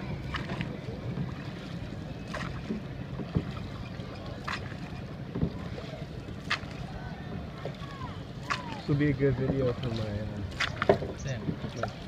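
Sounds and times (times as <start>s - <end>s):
oar swishing through water: 0.0s - 12.0s.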